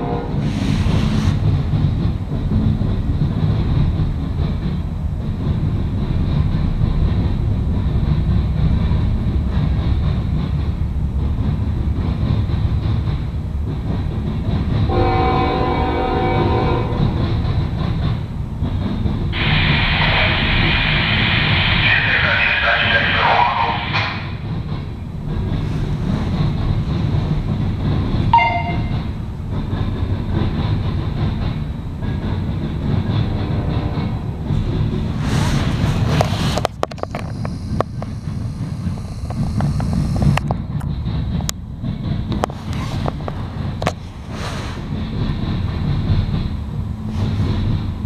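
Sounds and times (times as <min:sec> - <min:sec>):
freight train wheels rumbling: 0:00.0 - 0:48.0
faint rail clacks: 0:00.3 - 0:20.8, 0:21.4 - 0:48.0.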